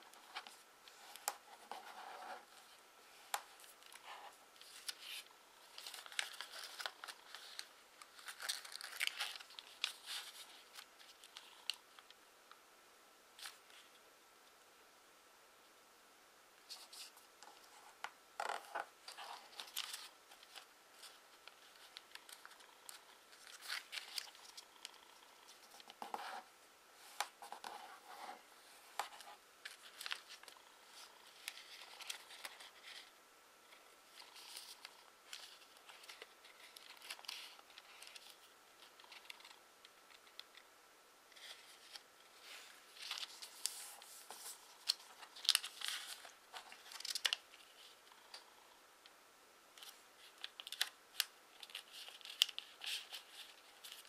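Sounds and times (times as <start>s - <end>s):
paper crinkling and folding: 0.0s - 12.2s, 13.4s - 14.0s, 16.7s - 40.7s, 41.3s - 48.4s, 49.8s - 54.0s.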